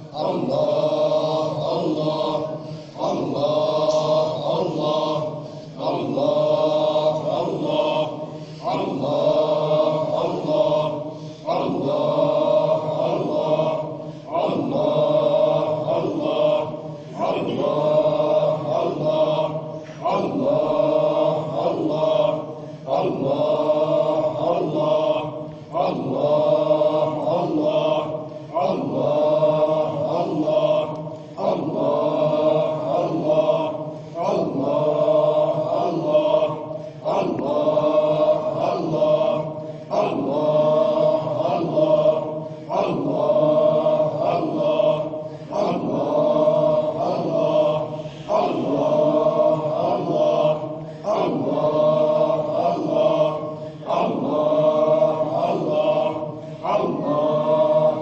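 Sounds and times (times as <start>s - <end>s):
men chanting in unison: 0.0s - 58.0s.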